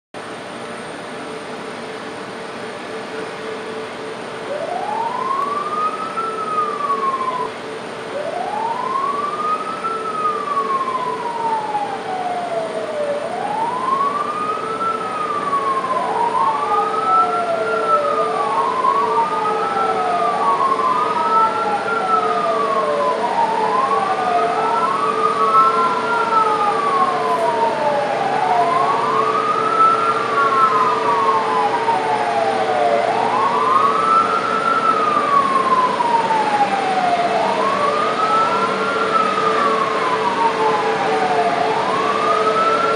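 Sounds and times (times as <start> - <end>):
steady hum: 0.2 - 42.9
fire truck sirens wailing: 1.0 - 42.9.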